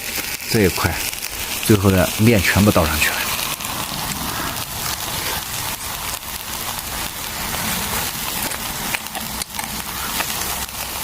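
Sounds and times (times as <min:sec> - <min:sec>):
batter sizzling in oiled pan: 0:00.0 - 0:11.0.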